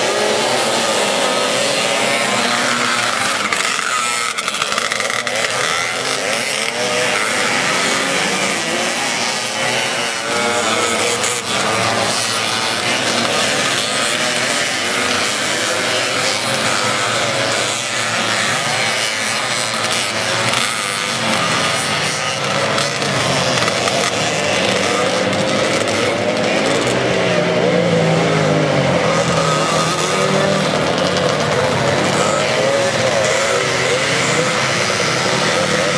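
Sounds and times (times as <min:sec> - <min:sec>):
motorcycles racing past: 0:00.0 - 0:35.9.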